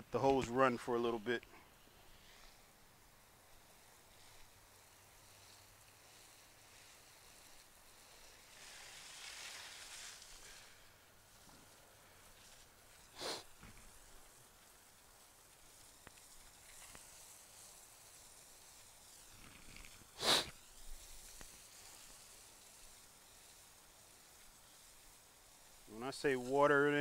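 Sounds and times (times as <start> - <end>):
water spraying from garden hose: 0.1 - 27.0.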